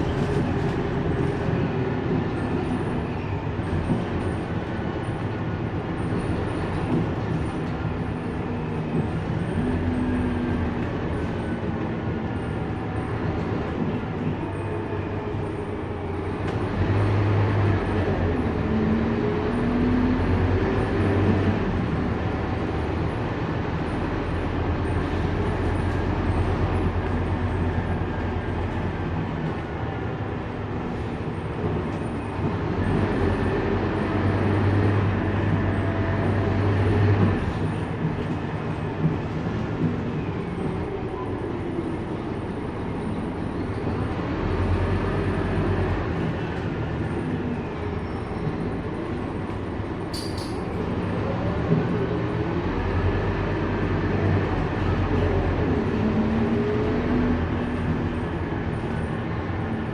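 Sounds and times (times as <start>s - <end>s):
bus diesel engine running: 0.0s - 59.9s
road noise: 0.0s - 59.9s.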